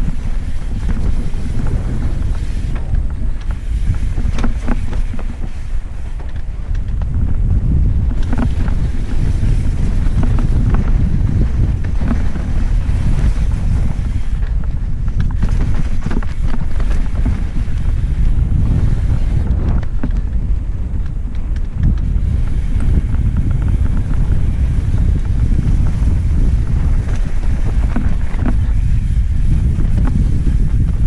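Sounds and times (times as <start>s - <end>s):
bike clicks and rattles: 0.0s - 31.0s
steady low rumble: 0.0s - 31.0s
wind buffeting microphone: 0.0s - 31.0s.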